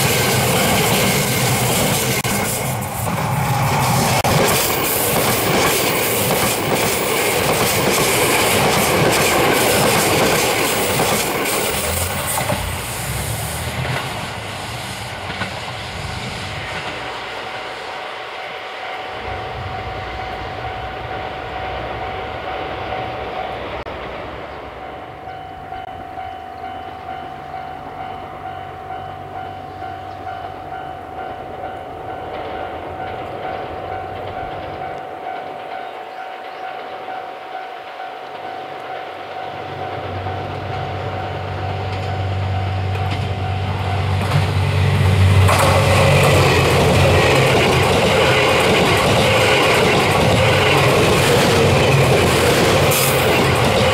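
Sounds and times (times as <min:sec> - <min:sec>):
train wheel and rail noise: 0:00.0 - 0:53.9.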